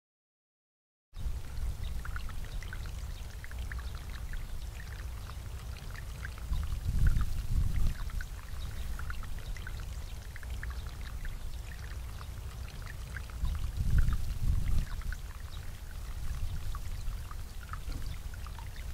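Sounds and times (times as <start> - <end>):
fountain water splashing: 1.4 - 18.9.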